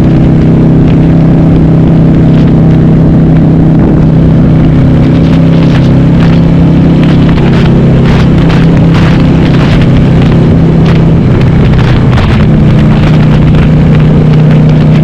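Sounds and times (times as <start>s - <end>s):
motorcycle engine running loud: 0.0s - 15.0s.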